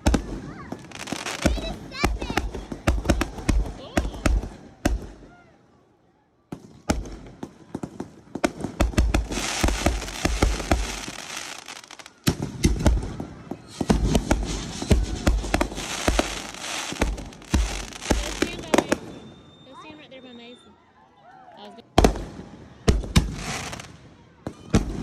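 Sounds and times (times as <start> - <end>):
fireworks bangs and crackling: 0.0 - 5.3, 6.5 - 20.0, 21.9 - 25.0.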